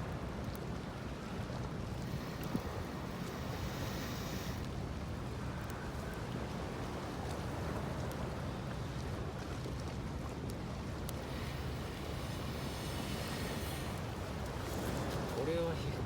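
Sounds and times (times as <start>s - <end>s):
wind and surf rumble: 0.0s - 16.0s.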